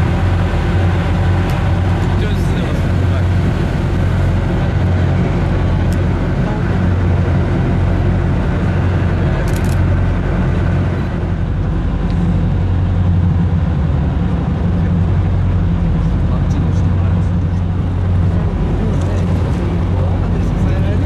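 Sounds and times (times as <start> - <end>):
heavy machinery engine humming: 0.0 - 21.0.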